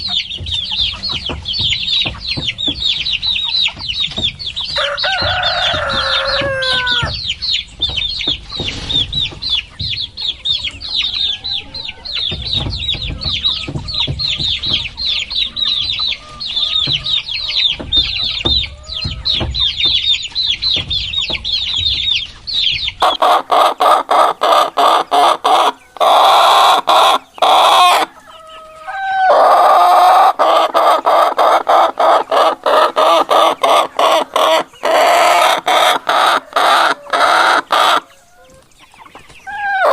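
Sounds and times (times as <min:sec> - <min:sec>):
chicks peeping: 0:00.0 - 0:39.9
hens clucking loudly: 0:02.2 - 0:21.8, 0:23.0 - 0:39.9.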